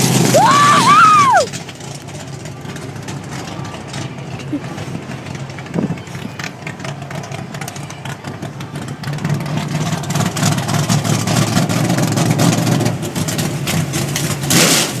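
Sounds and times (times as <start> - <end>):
race car engine idling: 0.0 - 14.6.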